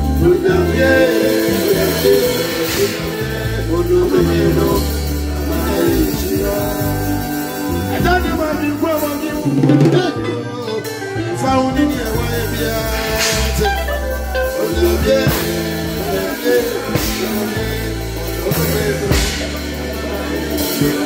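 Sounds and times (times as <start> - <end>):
conga-style hand drums: 0.0 - 21.0
low bass notes: 0.0 - 21.0
man singing into a microphone: 0.0 - 21.0.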